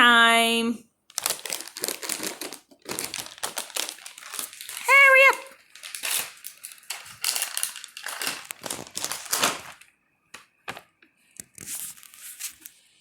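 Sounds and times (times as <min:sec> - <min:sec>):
plastic packaging crinkling: 0:01.1 - 0:10.0, 0:10.6 - 0:12.8.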